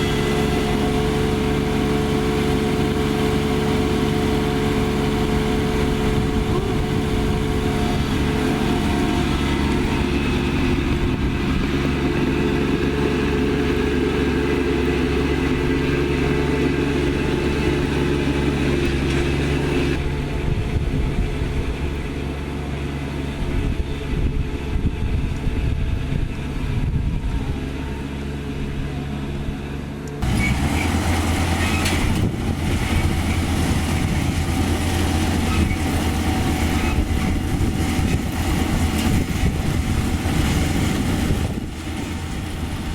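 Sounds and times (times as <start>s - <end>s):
combine harvester diesel engine: 0.0s - 42.9s.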